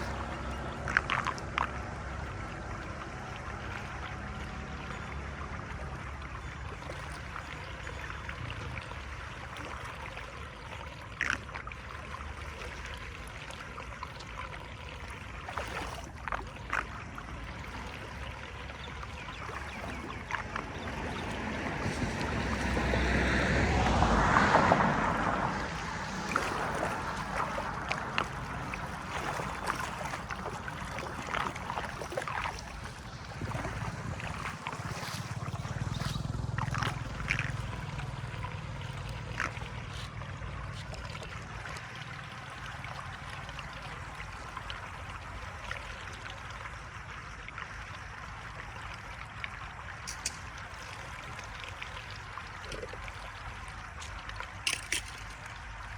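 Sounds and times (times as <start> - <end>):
floodwater flowing and gurgling: 0.0 - 55.9.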